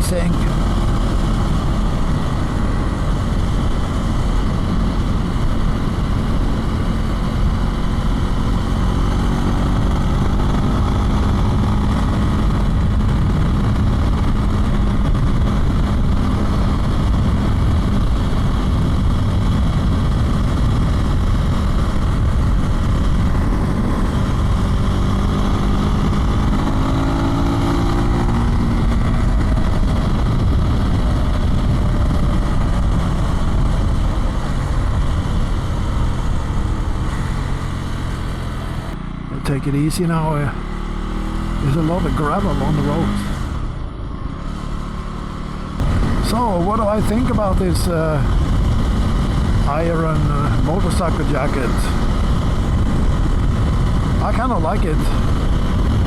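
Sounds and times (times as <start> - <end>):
wind rush on microphone: 0.0 - 39.3, 40.0 - 56.0
motorcycle engine riding: 0.0 - 56.0.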